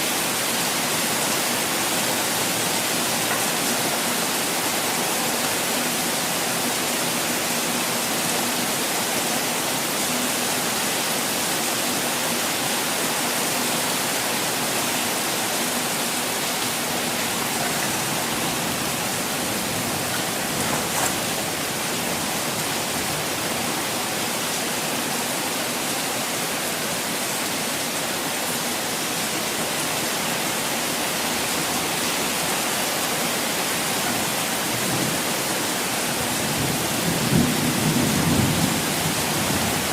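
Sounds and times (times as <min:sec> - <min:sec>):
falling water rushing: 0:00.0 - 0:39.9.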